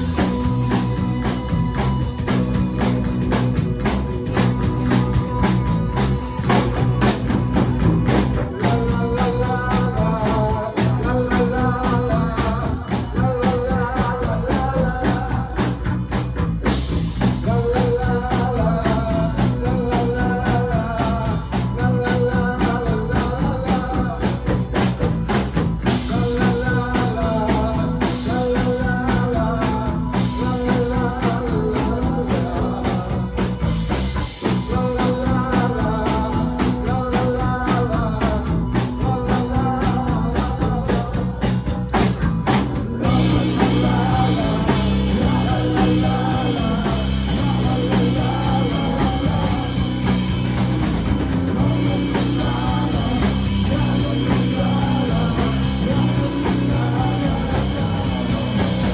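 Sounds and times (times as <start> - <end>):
fast drum kit beat: 0.0 - 58.9
person singing: 0.0 - 58.9
pulsing bass: 0.0 - 58.9
wavering lead melody: 0.0 - 58.9.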